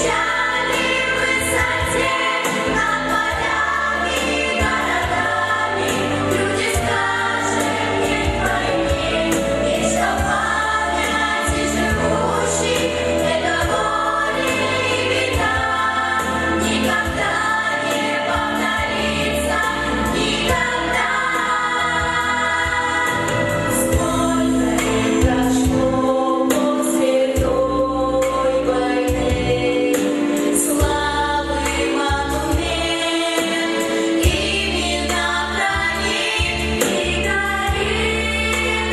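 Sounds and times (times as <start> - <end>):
backing track with steady beat: 0.0 - 38.9
vocal ensemble singing: 0.0 - 38.9.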